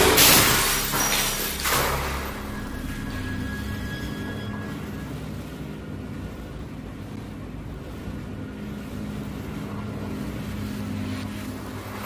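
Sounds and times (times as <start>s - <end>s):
ceiling fan spinning: 0.0s - 12.0s.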